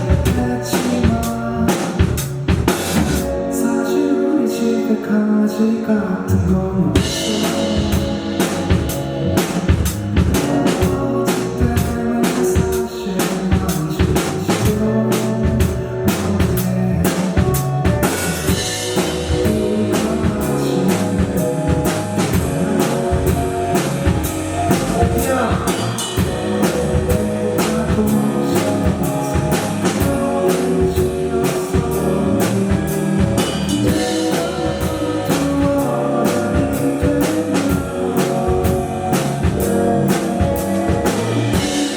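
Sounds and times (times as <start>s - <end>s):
drum kit beat: 0.0s - 3.6s, 6.7s - 41.9s
rock band playing: 0.0s - 41.9s.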